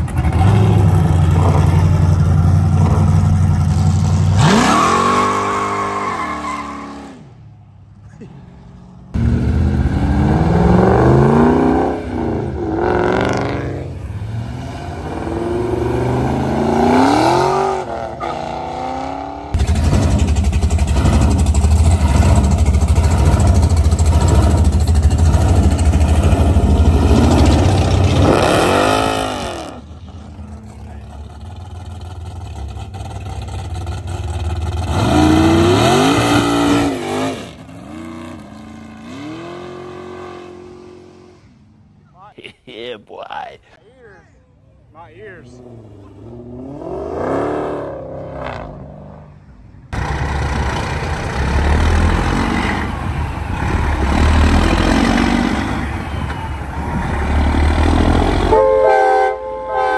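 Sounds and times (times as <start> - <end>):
car engines accelerating hard: 0.0 - 41.6, 45.0 - 58.8.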